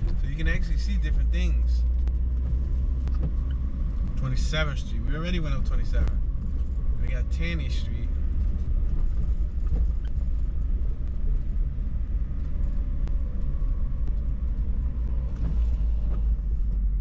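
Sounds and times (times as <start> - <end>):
car cabin road and engine rumble: 0.0 - 17.0.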